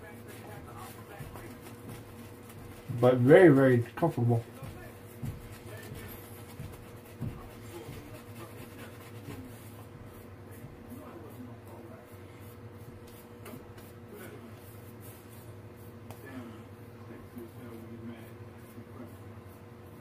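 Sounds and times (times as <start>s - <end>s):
shaving brush scrubbing: 0.0s - 20.0s.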